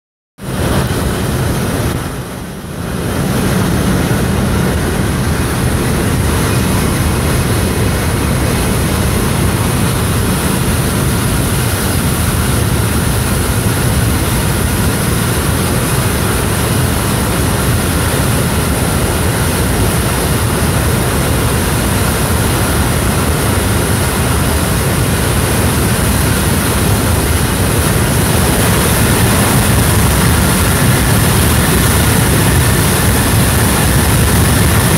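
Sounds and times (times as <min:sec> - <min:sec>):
jet engines idling: 0:00.4 - 0:34.9.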